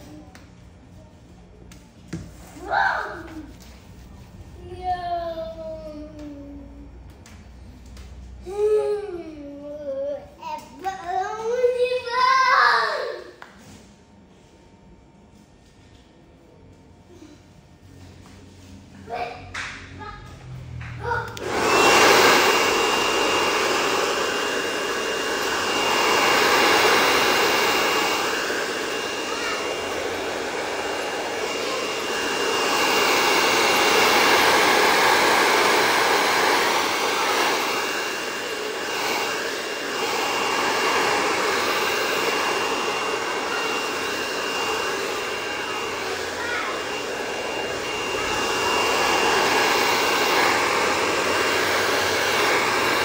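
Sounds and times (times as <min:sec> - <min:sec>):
hair dryer running: 0:02.0 - 0:13.8, 0:18.1 - 0:53.0.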